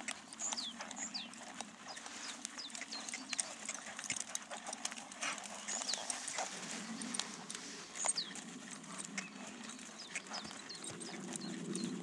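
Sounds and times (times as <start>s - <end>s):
horse hooves on sand: 0.0s - 12.0s.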